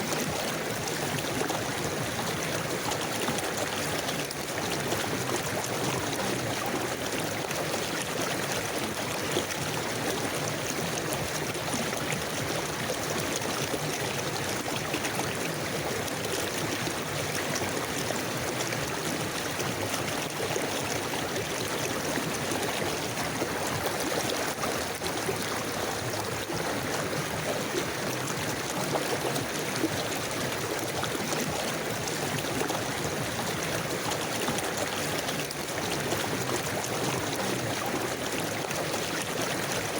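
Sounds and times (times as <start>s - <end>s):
water trickling and gurgling: 0.0s - 39.9s
river flowing: 0.1s - 39.9s.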